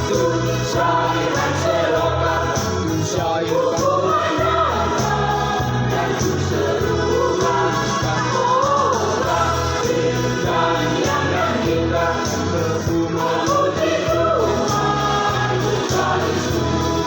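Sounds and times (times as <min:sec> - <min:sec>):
choir singing a hymn: 0:00.0 - 0:17.0
instrumental accompaniment: 0:00.0 - 0:17.0.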